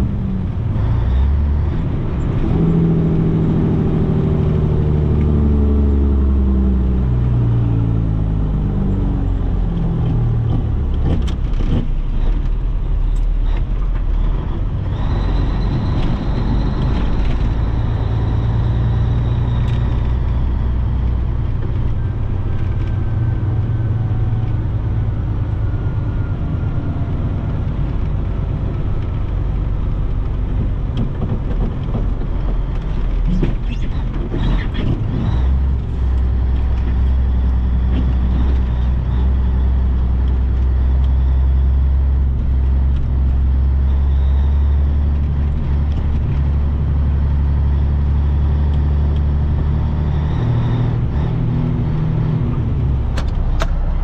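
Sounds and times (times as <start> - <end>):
truck diesel engine: 0.0 - 54.0.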